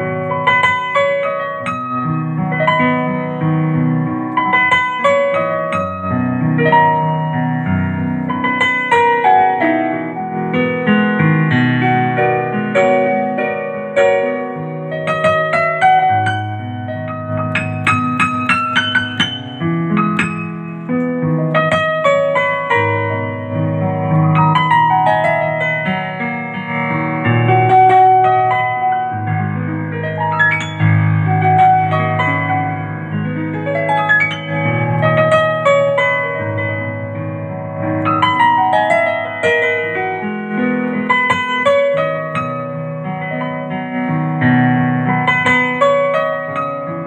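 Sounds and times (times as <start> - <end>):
piano melody with chords: 0.0 - 47.0.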